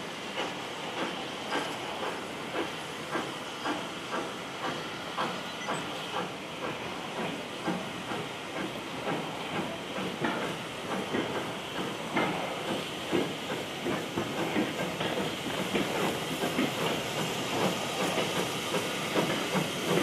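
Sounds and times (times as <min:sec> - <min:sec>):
steam hissing: 0:00.0 - 0:20.0
steam locomotive exhaust beats: 0:00.0 - 0:20.0.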